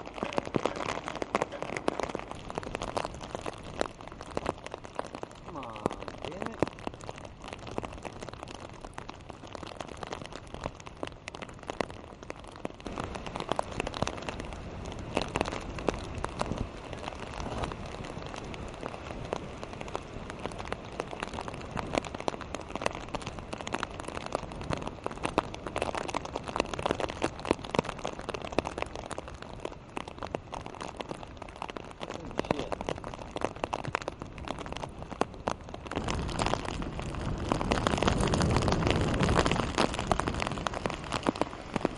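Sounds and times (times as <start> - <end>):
heavy rain on hard surfaces: 0.0 - 41.9
low wind rumble: 0.0 - 41.9.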